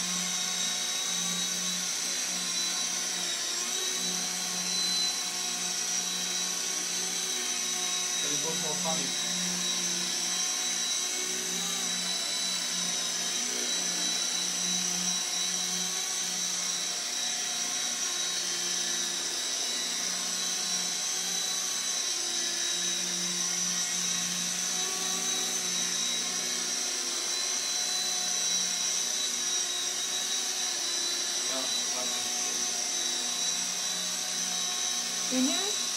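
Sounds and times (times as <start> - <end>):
high-pitched motor whine: 0.0 - 35.9.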